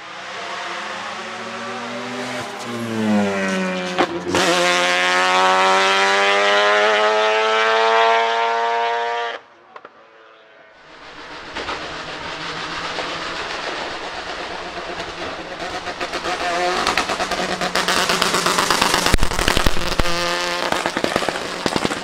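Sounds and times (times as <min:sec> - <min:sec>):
rotary race car engine revving: 0:00.0 - 0:09.4, 0:10.8 - 0:21.9.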